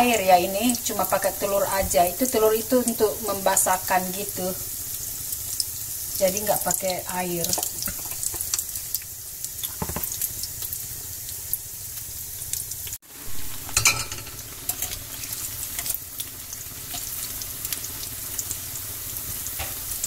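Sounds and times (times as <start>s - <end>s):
fritters sizzling in hot oil: 0.0s - 20.0s.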